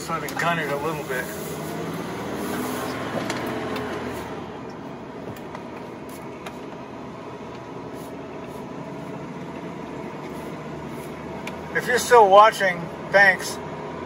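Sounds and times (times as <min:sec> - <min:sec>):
road noise: 0:00.0 - 0:14.0
truck engine running: 0:00.0 - 0:14.0.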